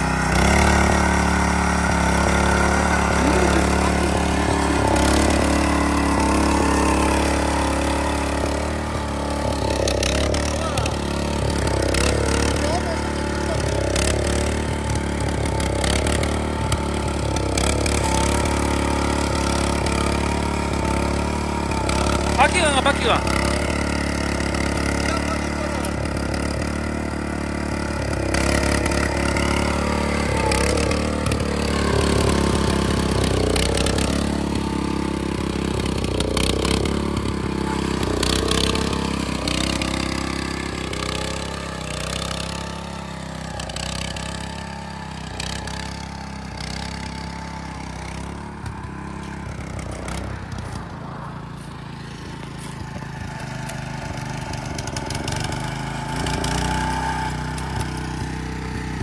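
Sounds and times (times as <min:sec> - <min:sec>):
tiller engine running under load: 0:00.0 - 0:59.0.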